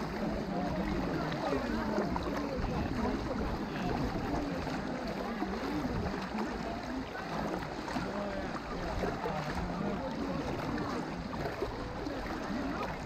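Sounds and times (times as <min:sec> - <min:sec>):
people wading through river water: 0:00.0 - 0:13.0.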